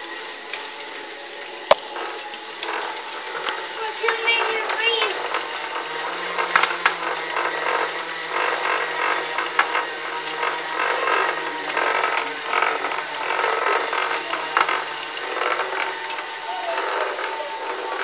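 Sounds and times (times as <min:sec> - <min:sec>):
bicycle trainer humming: 0:00.0 - 0:18.0.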